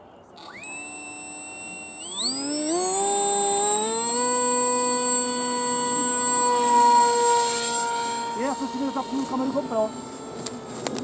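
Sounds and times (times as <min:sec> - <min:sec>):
electric model plane motor whine: 0:00.4 - 0:11.0.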